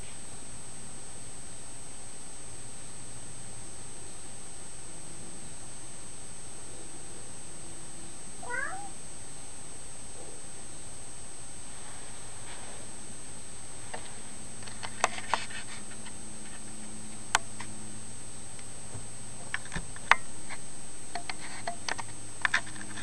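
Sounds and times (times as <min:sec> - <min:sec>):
faint high-pitched whine: 0:00.0 - 0:23.0
steady hum: 0:00.0 - 0:23.0.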